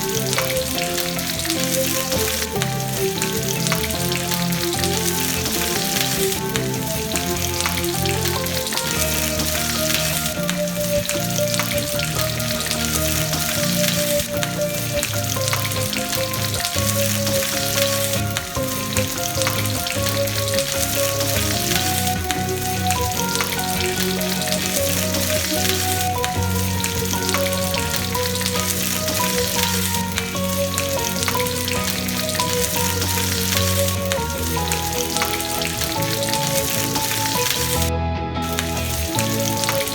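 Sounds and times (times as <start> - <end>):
background music: 0.0 - 39.9
food sizzling in hot oil: 0.0 - 39.9.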